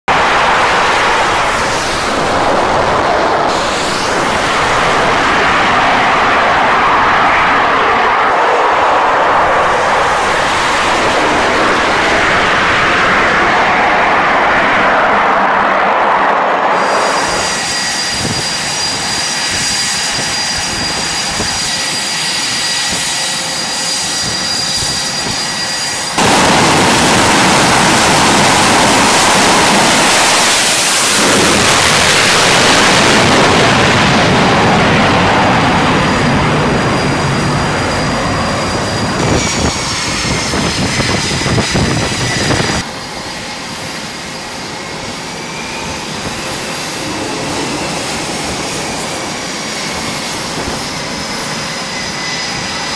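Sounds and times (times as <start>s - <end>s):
jet engines whining: 0.0s - 52.9s
jet roar at full power: 0.0s - 52.9s.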